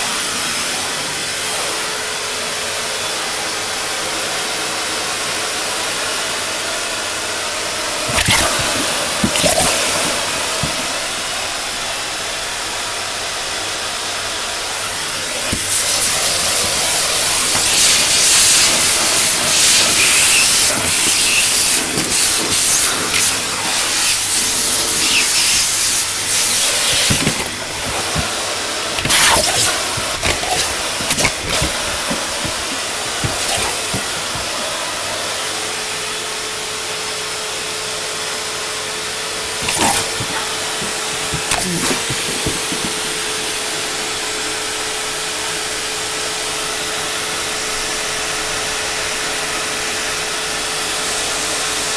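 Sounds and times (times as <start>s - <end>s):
vacuum cleaner hissing: 0.0s - 51.9s
vacuum cleaner whine: 0.0s - 51.9s.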